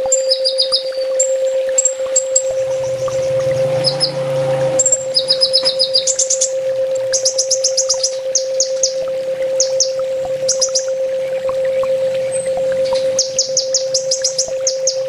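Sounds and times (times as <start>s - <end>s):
bird chirps and trills: 0.0s - 11.0s, 12.1s - 15.0s
steady low hum: 0.0s - 15.0s.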